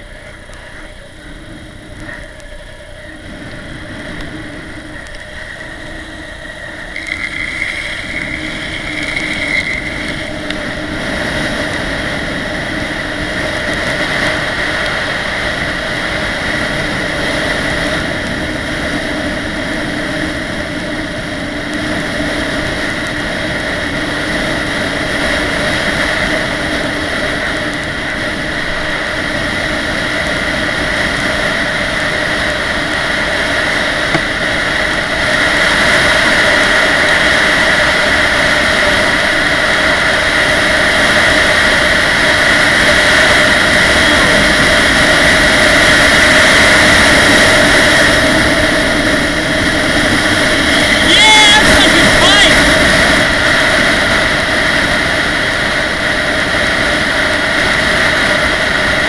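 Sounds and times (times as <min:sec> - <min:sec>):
longboard wheels rolling on asphalt: 0:00.0 - 0:59.0
wind on microphone: 0:00.0 - 0:59.0.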